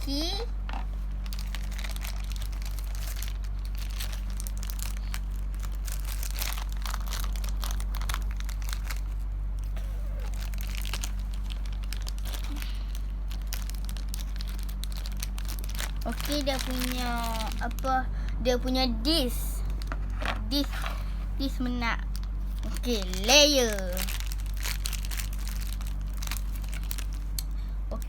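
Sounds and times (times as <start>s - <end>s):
low electrical hum: 0.0s - 28.0s
plastic packaging crinkling: 0.1s - 28.0s.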